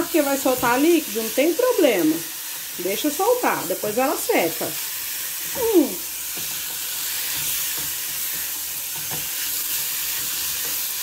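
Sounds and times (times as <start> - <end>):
meat sizzling in hot oil: 0.0 - 11.0.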